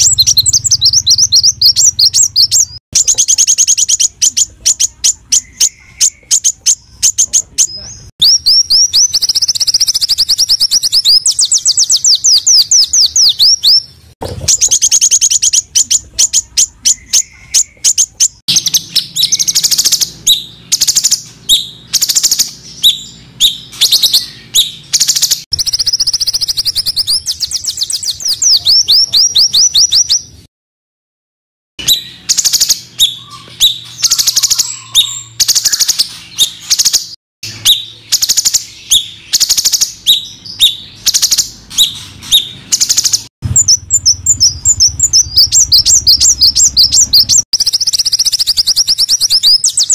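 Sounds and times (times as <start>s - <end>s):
small songbird singing: 0.0s - 30.5s, 31.8s - 49.9s.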